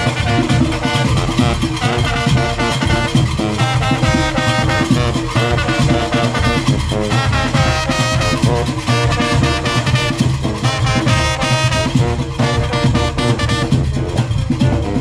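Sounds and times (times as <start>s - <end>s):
brass horns blowing: 0.0s - 15.0s
driving drumming: 0.0s - 15.0s.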